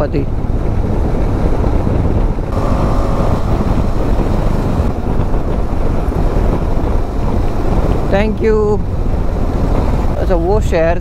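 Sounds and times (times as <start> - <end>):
motorcycle engine cruising: 0.0 - 10.2
wind rushing over microphone: 0.0 - 10.9.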